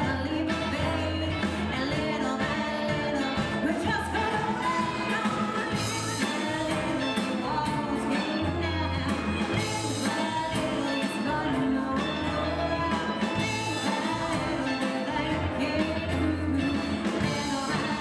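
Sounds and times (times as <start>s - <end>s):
low bass notes: 0.0s - 18.0s
woman singing: 0.0s - 18.0s.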